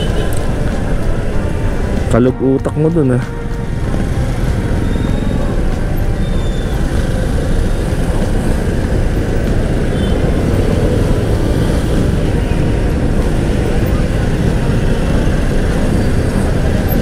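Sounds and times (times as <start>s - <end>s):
idling and creeping engines: 0.0s - 17.0s.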